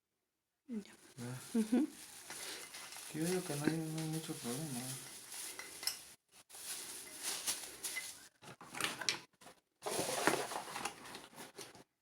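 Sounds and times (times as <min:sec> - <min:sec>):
rustling of plastic packaging: 0:01.0 - 0:09.1, 0:09.8 - 0:11.8.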